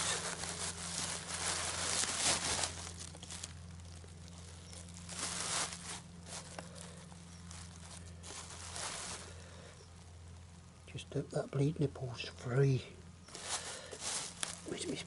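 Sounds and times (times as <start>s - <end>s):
bubble wrap crinkling and rustling: 0.0s - 10.5s, 13.3s - 15.0s.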